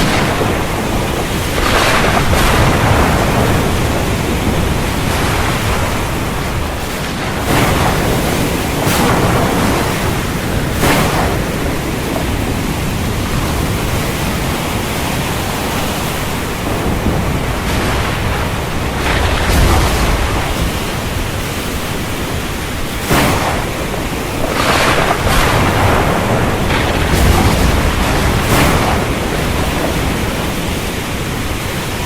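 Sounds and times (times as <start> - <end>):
heavy surf rushing: 0.0 - 32.0
waves breaking: 0.0 - 32.0
wind: 0.0 - 32.0.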